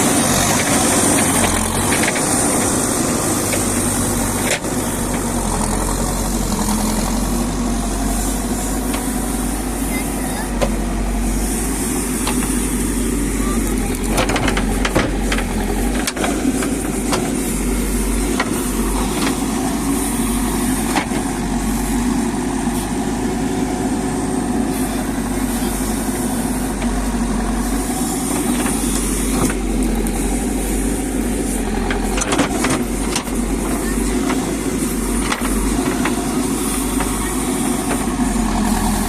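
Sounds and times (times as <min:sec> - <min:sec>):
backhoe diesel engine running: 0:00.0 - 0:39.0.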